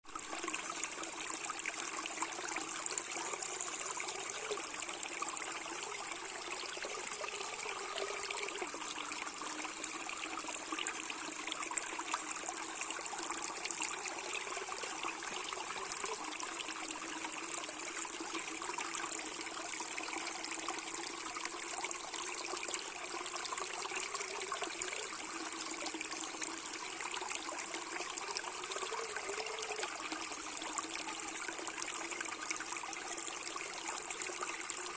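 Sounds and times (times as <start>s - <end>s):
water trickling and flowing: 0.0s - 34.9s.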